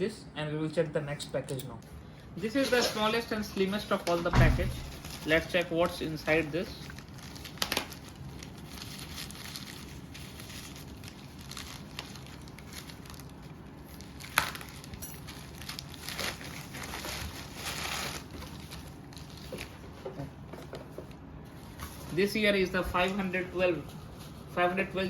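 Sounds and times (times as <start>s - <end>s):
packaging rustling and crinkling: 2.6s - 25.0s.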